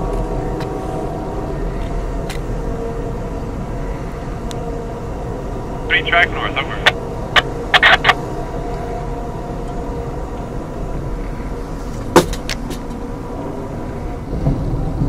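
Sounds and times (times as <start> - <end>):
train car rumble and hum: 0.0 - 15.0.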